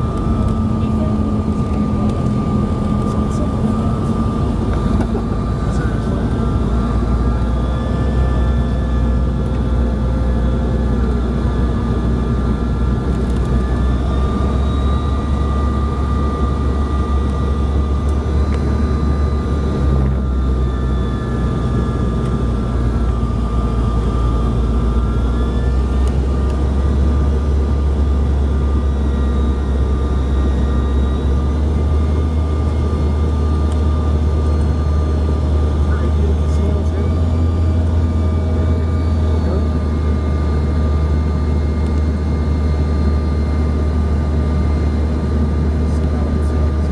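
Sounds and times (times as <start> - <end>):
aircraft cabin rumble: 0.0 - 46.9
jet engine whine: 0.0 - 46.9.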